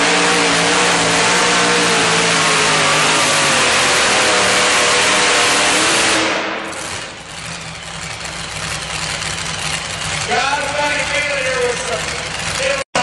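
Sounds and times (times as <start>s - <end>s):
supercharged truck engine roaring: 0.0s - 13.0s.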